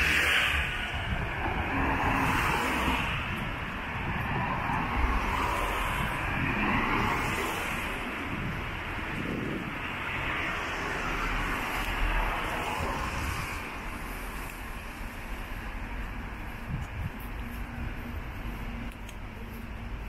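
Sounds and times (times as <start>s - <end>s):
cars passing on wet road: 0.0s - 20.0s.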